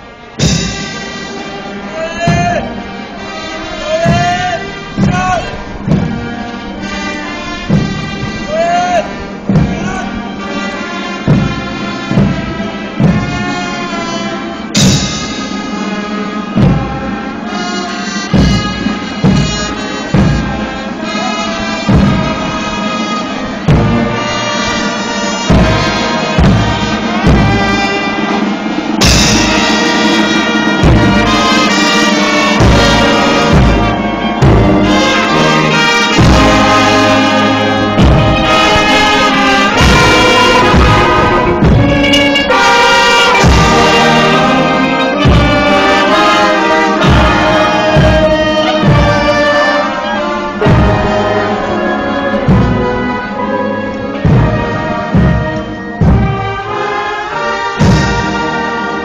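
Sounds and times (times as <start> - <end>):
brass band playing a march: 0.0 - 59.0
drum beating: 0.0 - 59.0.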